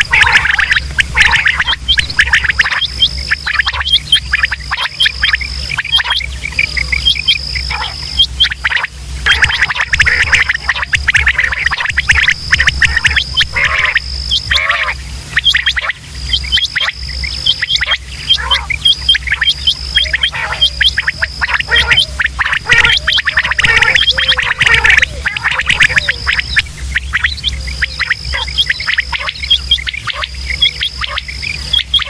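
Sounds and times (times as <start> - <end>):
high-pitched trill: 0.0 - 32.0
low hum: 0.0 - 32.0
quail calling: 0.0 - 32.0.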